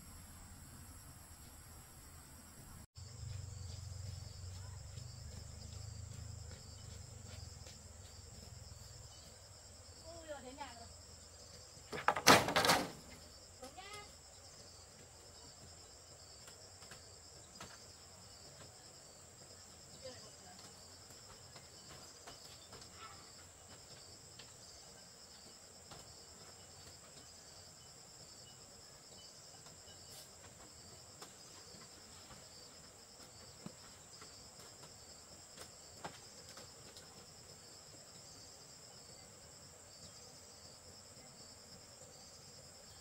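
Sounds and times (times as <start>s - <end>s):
crickets trilling: 0.0s - 43.0s.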